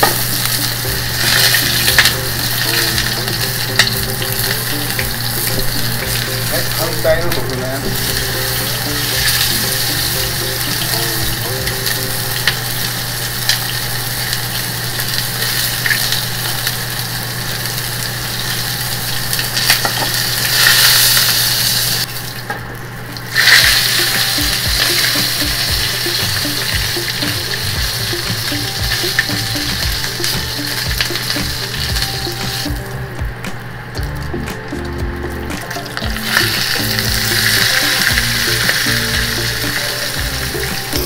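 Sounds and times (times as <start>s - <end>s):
pork sizzling in a frying pan: 0.0s - 41.0s.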